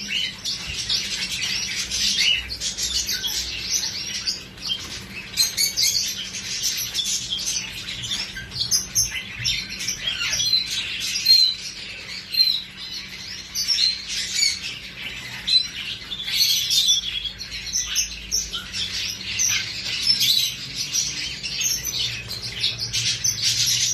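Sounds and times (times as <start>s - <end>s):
parrots chirping and chattering: 0.0s - 23.9s.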